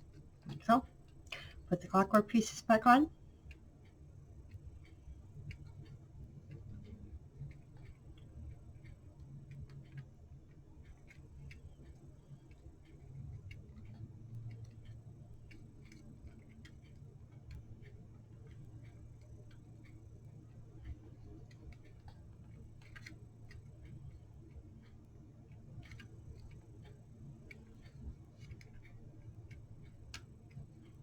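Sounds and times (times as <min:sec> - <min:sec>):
small clock parts clicking: 0:03.5 - 0:31.0.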